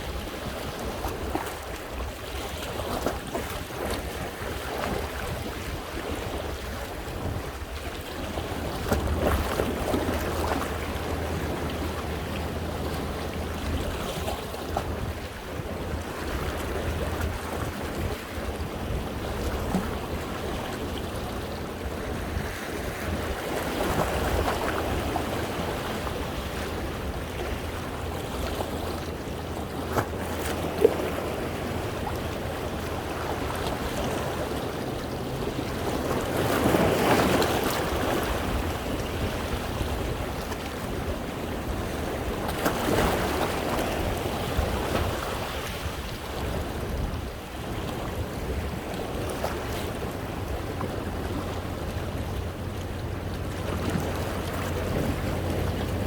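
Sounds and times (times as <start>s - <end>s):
waves splashing over rocks: 0.0s - 56.0s
wind rumble on microphone: 0.0s - 56.0s.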